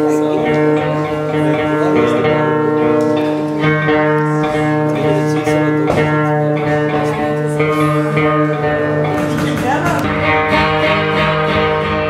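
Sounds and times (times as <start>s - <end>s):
droning held notes: 0.0s - 12.0s
plucked string instrument: 0.0s - 12.0s.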